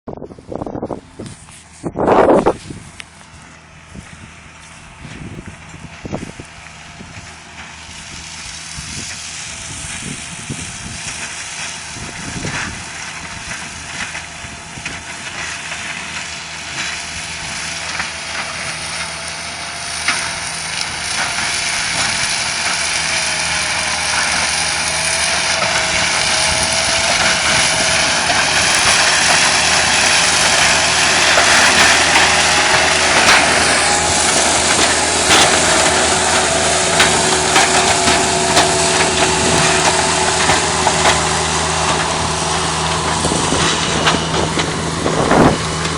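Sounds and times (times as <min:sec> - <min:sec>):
diesel engine with mulcher whining: 0:00.1 - 0:45.9.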